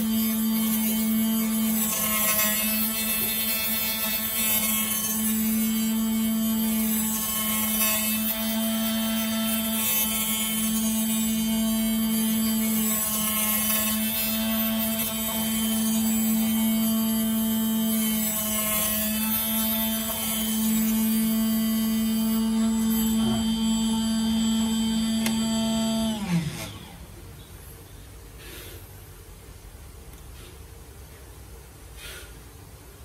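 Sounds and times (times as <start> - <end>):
glass cutting machine humming: 0.0 - 27.2.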